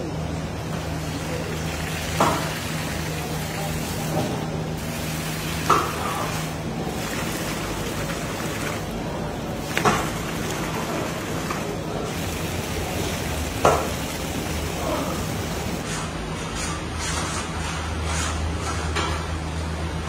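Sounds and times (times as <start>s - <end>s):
low machine hum: 0.0s - 16.4s.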